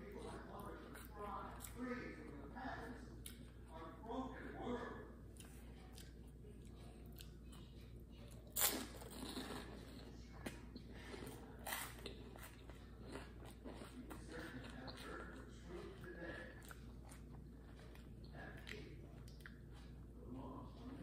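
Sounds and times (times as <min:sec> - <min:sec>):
person chewing cupcake: 0:00.0 - 0:21.0.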